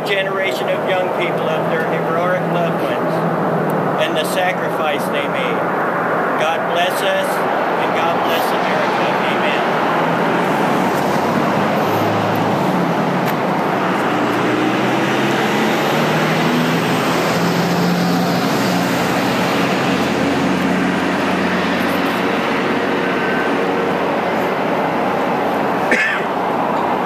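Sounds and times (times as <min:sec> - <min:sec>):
large vehicle engine humming: 0:00.0 - 0:27.0
road traffic noise: 0:00.0 - 0:27.0.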